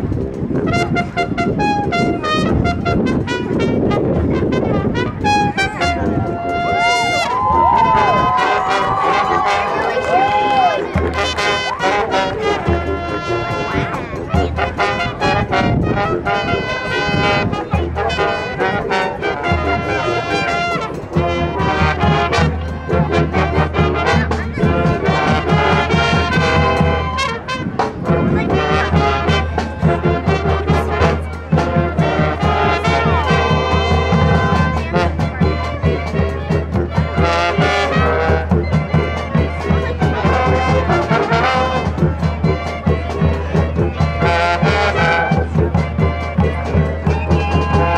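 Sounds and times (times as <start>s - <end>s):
brass marching band: 0.0s - 47.9s
steady drum beat: 0.0s - 47.9s.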